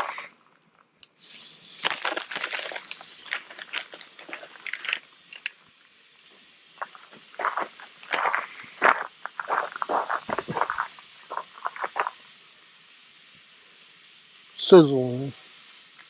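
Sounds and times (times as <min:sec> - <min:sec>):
campfire crackles and pops: 0:00.0 - 0:16.0
burger patties sizzling on grill: 0:01.1 - 0:16.0.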